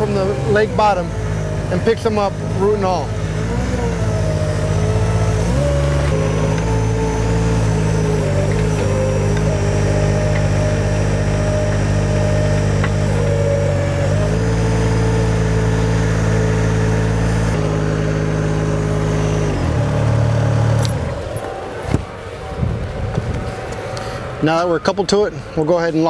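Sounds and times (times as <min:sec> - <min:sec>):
boat engine running under load: 0:00.0 - 0:26.0.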